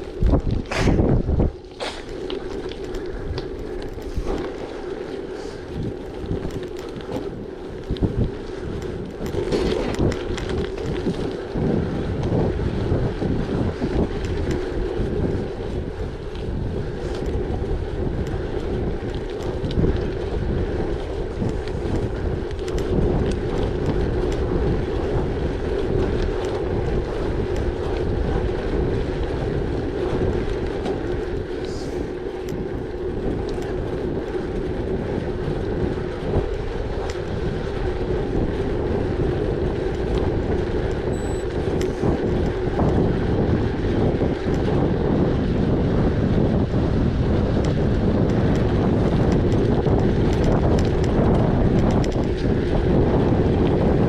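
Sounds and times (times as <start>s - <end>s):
tyres rolling hum: 0.0s - 54.0s
wind buffeting microphone: 0.0s - 54.0s.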